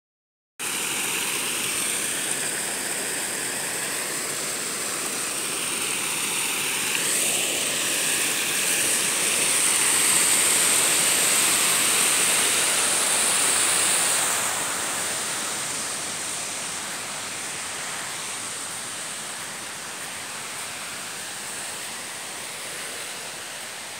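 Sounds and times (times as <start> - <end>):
water rushing over a weir: 0.6 - 23.9.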